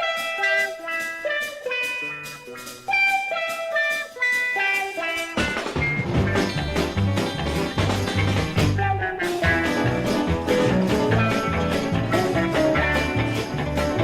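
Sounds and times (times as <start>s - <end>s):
bluegrass band playing: 0.0s - 14.0s
plucked-string melody: 0.0s - 14.0s.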